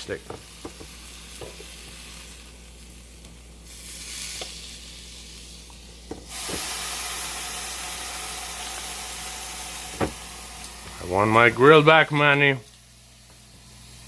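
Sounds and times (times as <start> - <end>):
steak sizzling in hot fat: 0.0 - 14.0.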